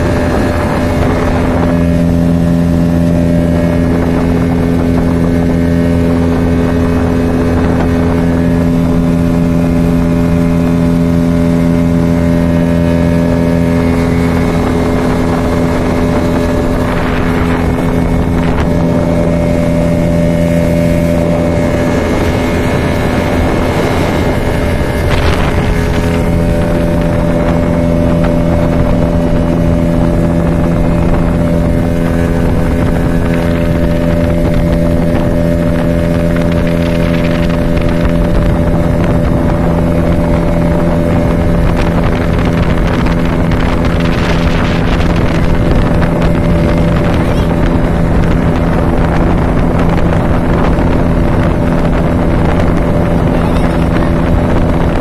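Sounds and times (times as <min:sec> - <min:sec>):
outboard motor droning: 0:00.0 - 0:55.0
wind noise on microphone: 0:00.0 - 0:55.0.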